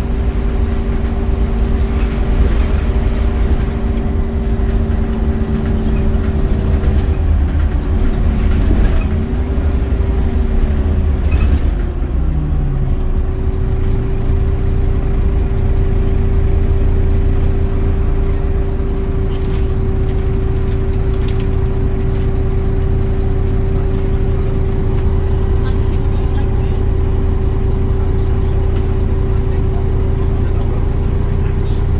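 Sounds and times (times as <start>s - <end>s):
bus engine rumble: 0.0s - 31.9s.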